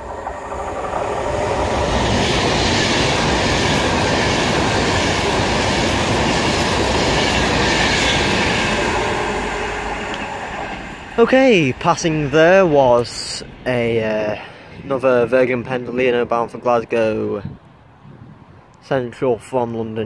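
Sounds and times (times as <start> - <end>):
train passing on rails: 0.0 - 18.6.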